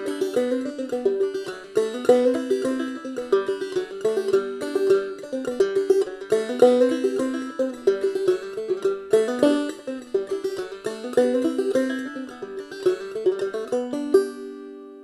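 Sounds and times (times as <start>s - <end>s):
banjo played clawhammer style: 0.0s - 15.0s.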